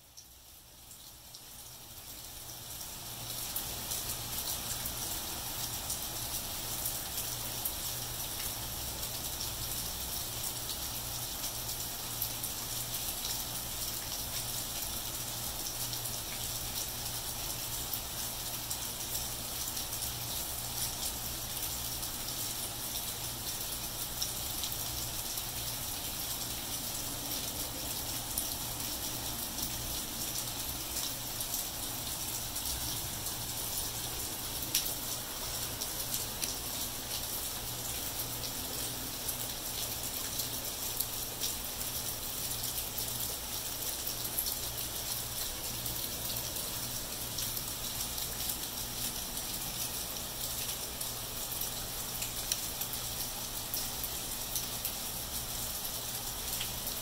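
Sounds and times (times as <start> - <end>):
rain on wet pavement: 0.9 - 57.0.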